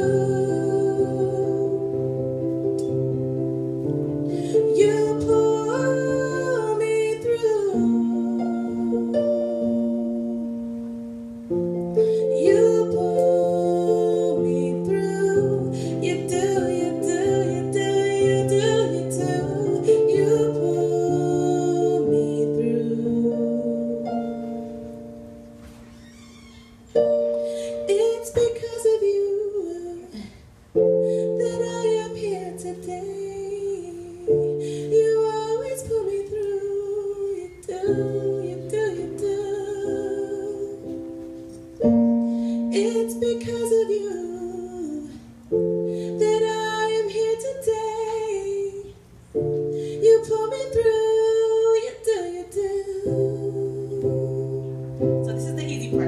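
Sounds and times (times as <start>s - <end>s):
woman singing a slow song: 0.0s - 10.7s, 11.8s - 24.9s, 27.0s - 56.0s
piano-style keyboard chords: 0.0s - 56.0s.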